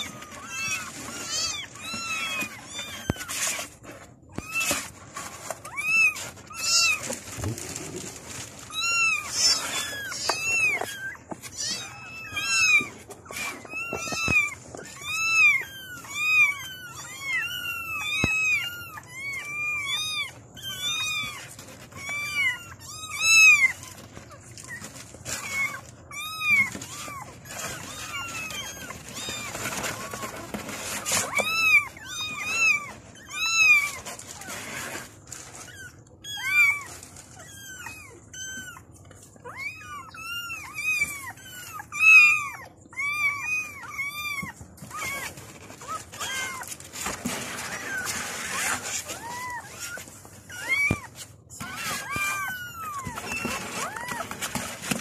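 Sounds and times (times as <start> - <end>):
kittens mewing: 0.0 - 55.0.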